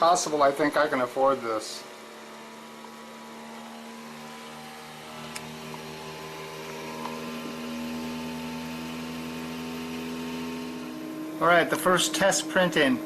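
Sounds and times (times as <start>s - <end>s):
printer motors humming: 0.0s - 13.0s.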